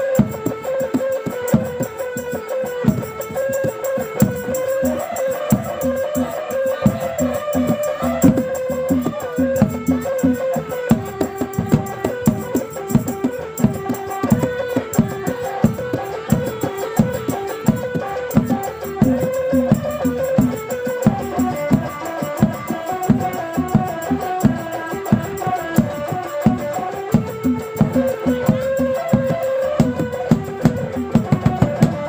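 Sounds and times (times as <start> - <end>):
drums beating steady rhythm: 0.0 - 32.0
held melody line: 0.0 - 32.0.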